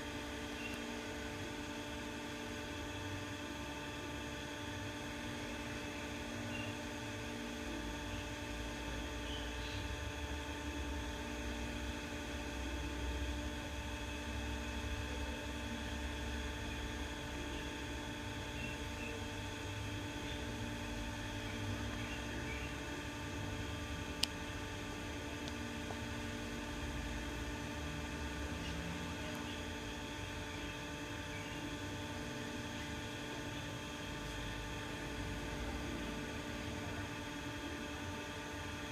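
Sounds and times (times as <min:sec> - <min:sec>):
ceiling fan motor humming: 0:00.0 - 0:38.9.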